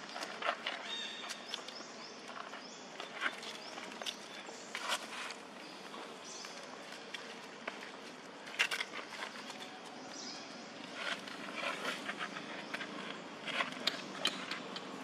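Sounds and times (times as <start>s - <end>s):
crackling and rustling: 0.0s - 15.0s
steady outdoor hiss: 0.0s - 15.0s.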